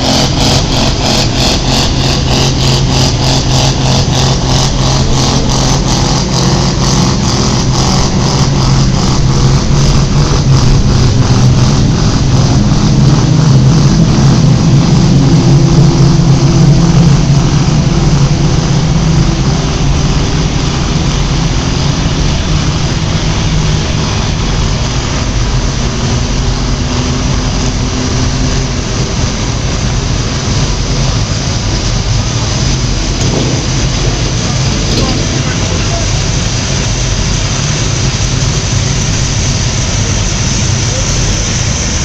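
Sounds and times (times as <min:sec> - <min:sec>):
tractor diesel engine running hard: 0:00.0 - 0:42.0.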